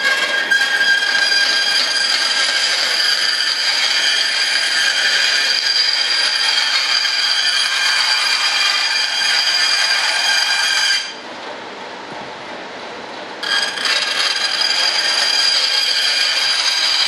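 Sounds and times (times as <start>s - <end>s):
band saw cutting fiberglass: 0.0s - 11.2s, 13.4s - 17.0s.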